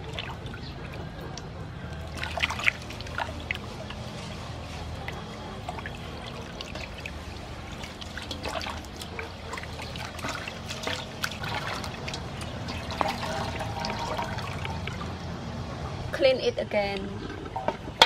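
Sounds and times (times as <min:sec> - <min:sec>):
water running off into basin: 0:00.0 - 0:16.0
water splashing in metal basin: 0:00.0 - 0:16.1.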